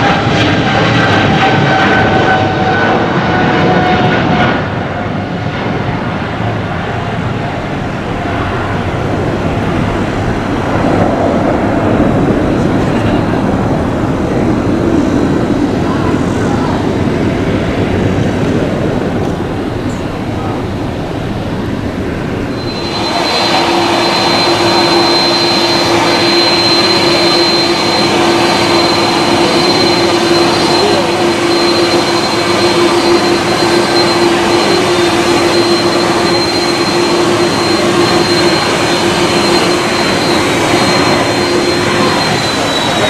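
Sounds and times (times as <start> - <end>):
high whine: 0.0 - 43.0
jet engines roaring: 0.0 - 43.0.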